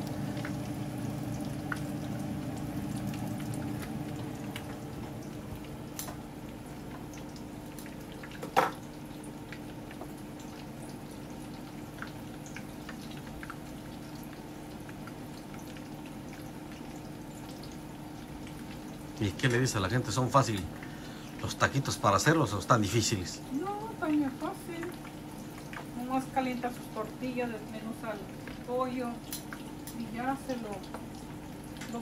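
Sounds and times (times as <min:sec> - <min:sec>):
food sizzling in oil: 0:00.0 - 0:32.0
oil popping and crackling: 0:00.0 - 0:32.0.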